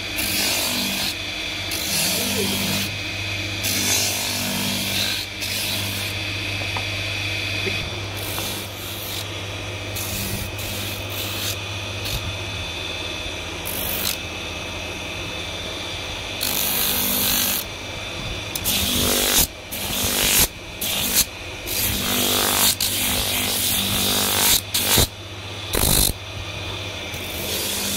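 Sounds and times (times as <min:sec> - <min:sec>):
electric motor humming: 0:00.0 - 0:27.9.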